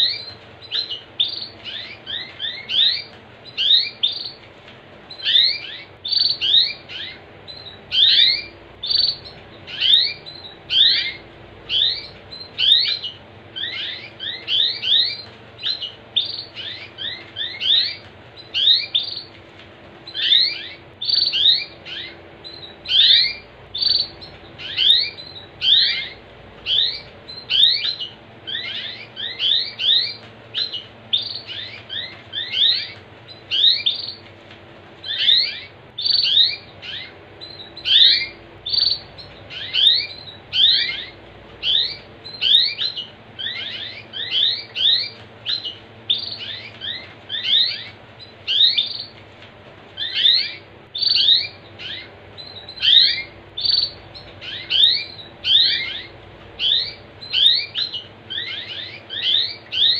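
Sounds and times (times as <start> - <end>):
canary chirping: 0.0 - 34.4, 35.0 - 49.2, 49.9 - 59.9.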